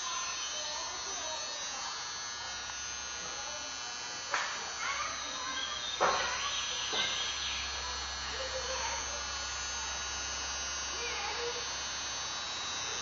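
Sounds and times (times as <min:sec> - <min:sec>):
faint distant voices: 0:00.0 - 0:11.8
electrical hum and buzz: 0:00.0 - 0:13.0
faint high whine: 0:00.0 - 0:13.0.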